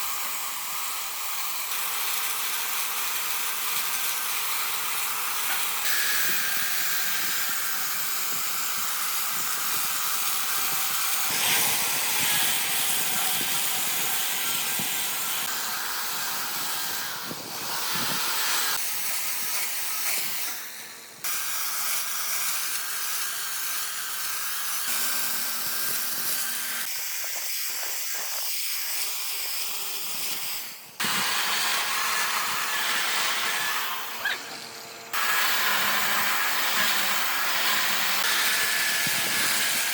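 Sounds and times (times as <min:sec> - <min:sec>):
power tools working wood: 0:00.0 - 0:27.8, 0:28.9 - 0:39.9.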